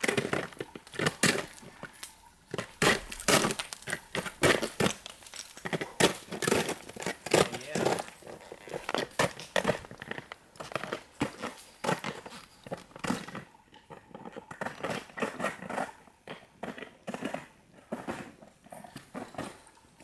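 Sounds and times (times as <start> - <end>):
crampons crunching on ice: 0.0 - 19.6.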